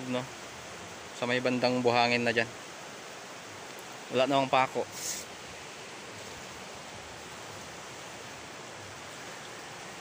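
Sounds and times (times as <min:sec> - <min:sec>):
river rushing in flood: 0:00.0 - 0:10.0.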